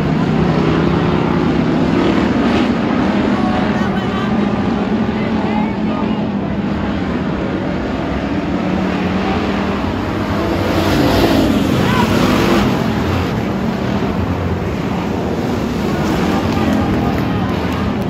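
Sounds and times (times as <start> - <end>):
race car engines droning: 0.0 - 18.0.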